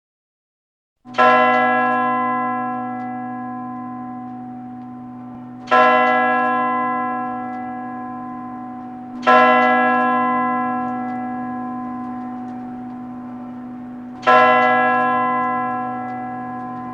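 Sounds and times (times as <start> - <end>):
church bell tolling: 1.1 - 16.9.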